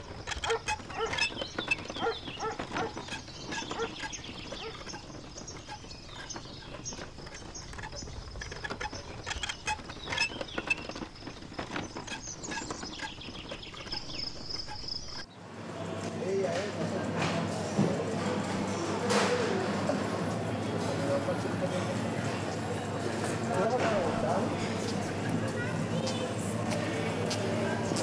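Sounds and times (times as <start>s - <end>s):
wooden handcart rattling: 0.0s - 15.3s, 16.2s - 28.0s
birds chirping: 0.0s - 16.3s, 18.5s - 28.0s.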